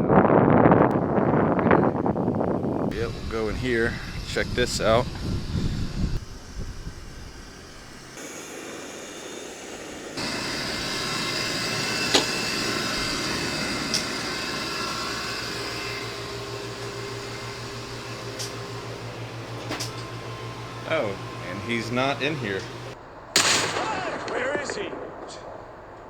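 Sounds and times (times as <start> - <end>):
cooling fans whirring hum: 0.0 - 23.8.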